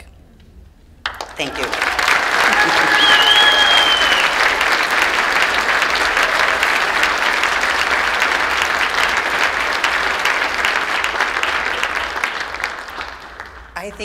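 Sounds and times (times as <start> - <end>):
audience applauding: 1.0 - 14.0.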